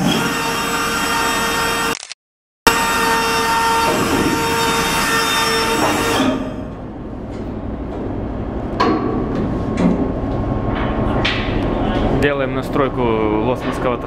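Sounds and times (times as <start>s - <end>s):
ship machinery hum: 2.7s - 14.0s.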